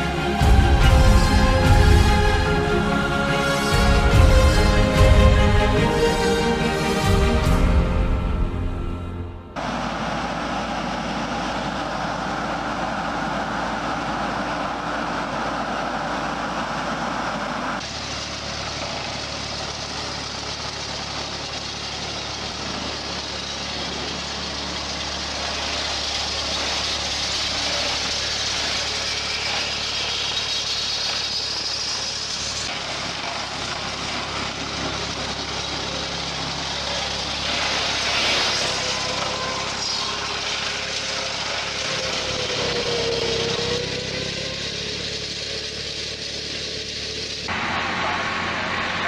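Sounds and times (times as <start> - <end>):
heavy machinery engine running: 0.0 - 49.0.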